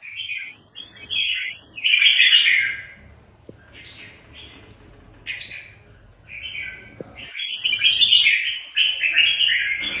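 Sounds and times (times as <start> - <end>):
bird singing: 0.0 - 10.0.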